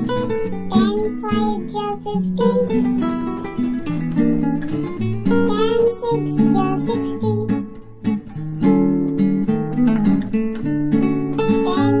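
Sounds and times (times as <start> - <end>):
plucked-string instrumental music: 0.0 - 12.0.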